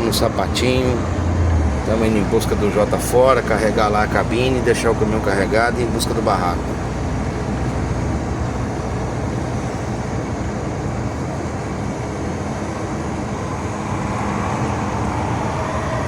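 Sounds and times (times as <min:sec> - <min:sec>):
road and tyre noise: 0:00.0 - 0:16.0
truck engine drone from cab: 0:00.0 - 0:16.0.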